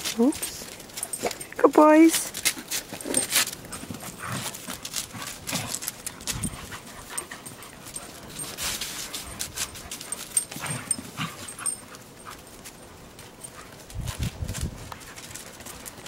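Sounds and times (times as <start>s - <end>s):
dogs scuffling on snow: 0.0s - 16.0s.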